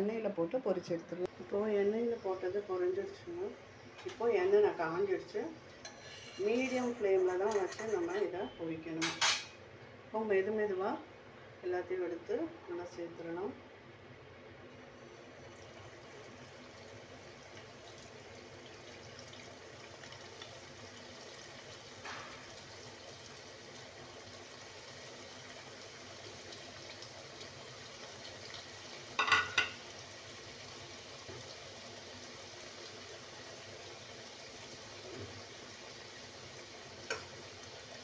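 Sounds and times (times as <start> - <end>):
pastries sizzling in hot oil: 1.7 - 8.4, 9.0 - 9.6, 14.7 - 38.0.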